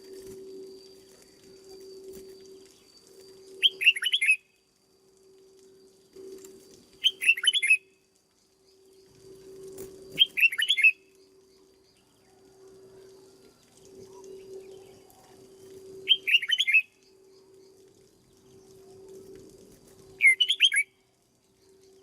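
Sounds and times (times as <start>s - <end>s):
bird singing: 0.0s - 4.6s, 6.2s - 22.0s.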